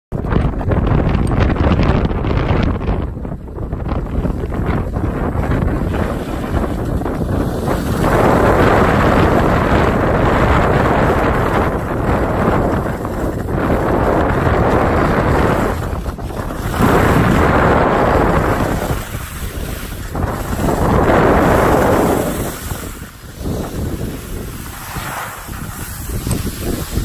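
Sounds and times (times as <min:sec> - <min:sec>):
wind buffeting microphone: 0:00.1 - 0:27.0
skis scraping over snow: 0:04.0 - 0:27.0.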